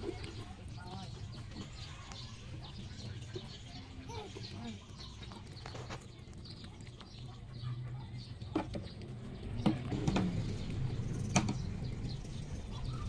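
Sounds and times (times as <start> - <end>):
rabbits chewing: 0.0 - 13.0
small birds chirping: 0.0 - 13.0.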